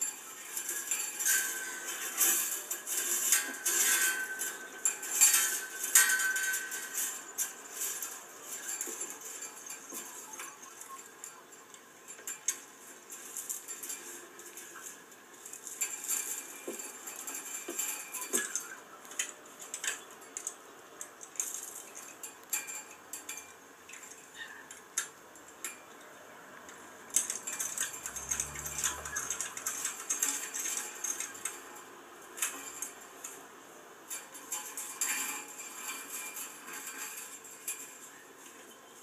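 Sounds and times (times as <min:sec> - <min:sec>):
fence wires clinking and scraping: 0:00.0 - 0:39.0.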